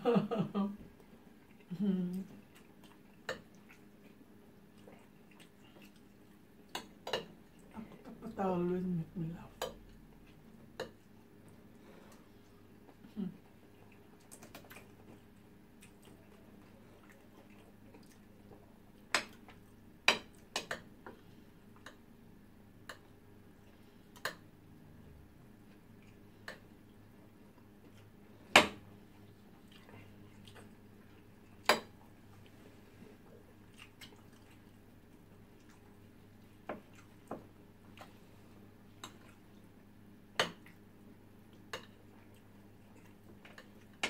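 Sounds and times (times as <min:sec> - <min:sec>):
faint low hum: 0:00.0 - 0:44.0.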